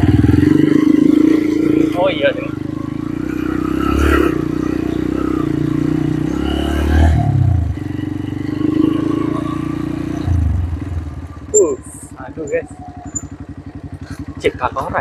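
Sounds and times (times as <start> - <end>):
small motorcycle engine running: 0.0 - 15.0.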